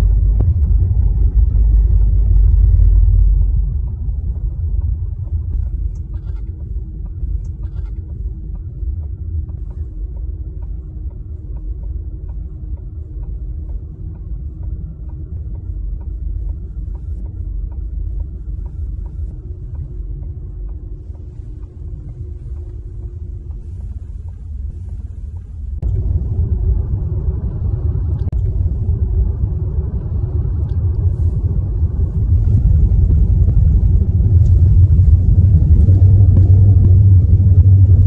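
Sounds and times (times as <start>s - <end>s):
car tyre noise on snow: 0.0s - 38.0s
faint steady hum: 0.0s - 38.0s.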